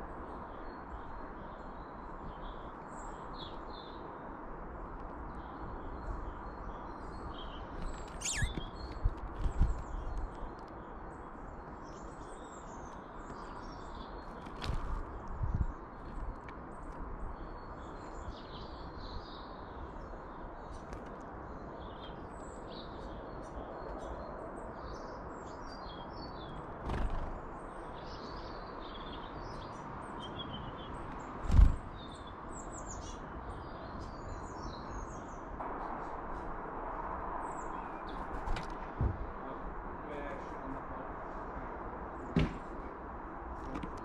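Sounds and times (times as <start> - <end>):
small birds chirping and singing: 0.0 - 35.6.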